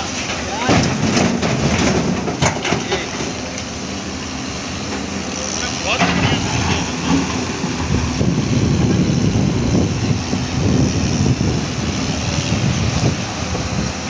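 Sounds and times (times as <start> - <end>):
excavator diesel engine under load: 0.0 - 14.0.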